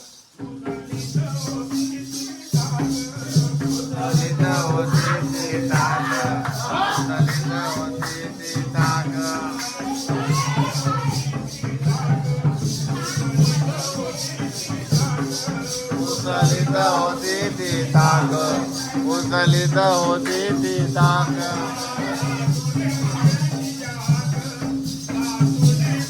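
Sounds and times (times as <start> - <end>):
fast jingling beat: 0.0 - 26.0
wavering melody: 1.3 - 26.0.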